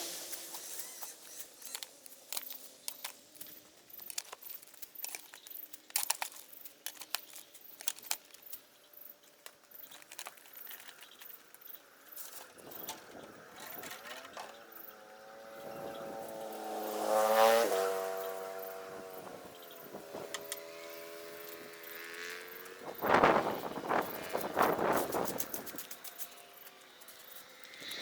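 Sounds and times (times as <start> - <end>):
dry leaves crackling and rustling: 0.0 - 28.0.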